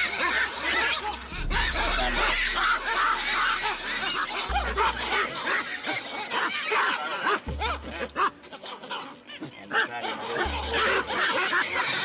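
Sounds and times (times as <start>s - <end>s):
baboons shrill calls and screams: 0.0s - 12.0s.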